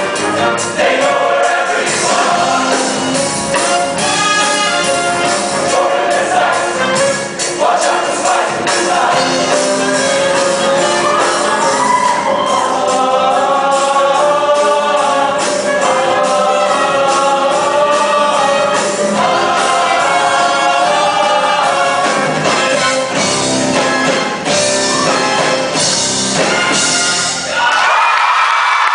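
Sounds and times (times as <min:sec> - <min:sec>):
instrumental backing: 0:00.0 - 0:27.5
choir singing in harmony: 0:00.0 - 0:27.7.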